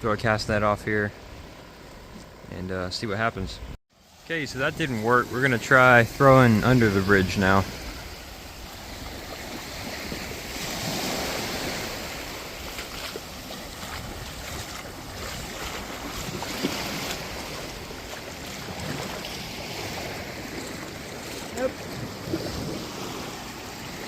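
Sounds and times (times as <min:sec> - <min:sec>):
sea waves washing against pier: 0:04.0 - 0:24.0
wind buffeting microphone: 0:04.5 - 0:24.0.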